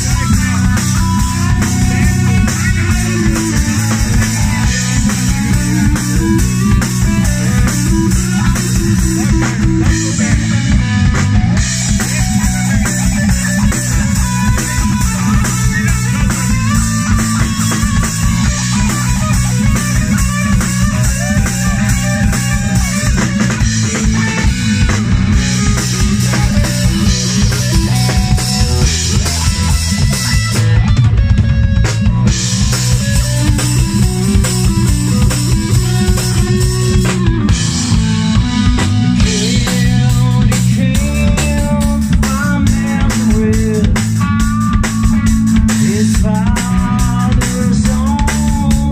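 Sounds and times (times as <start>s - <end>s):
bass guitar: 0.0s - 48.9s
drum kit with cymbals: 0.0s - 48.9s
electric guitar: 0.0s - 48.9s.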